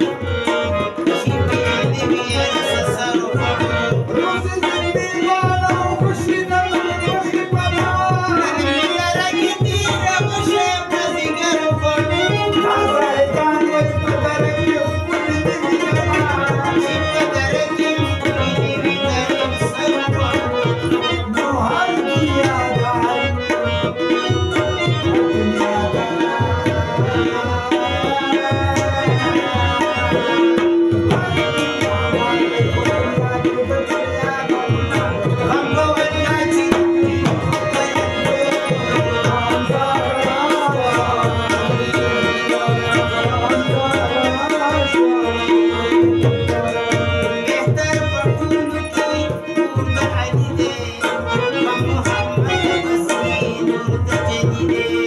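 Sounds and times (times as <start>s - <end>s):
harmonium: 0.0s - 55.0s
person singing: 0.0s - 55.0s
rubab: 0.0s - 55.0s
tabla in a quick rhythm: 0.0s - 55.0s.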